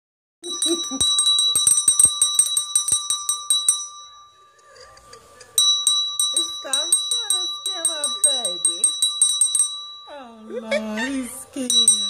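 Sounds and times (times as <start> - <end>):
small bell ringing: 0.4 - 12.0.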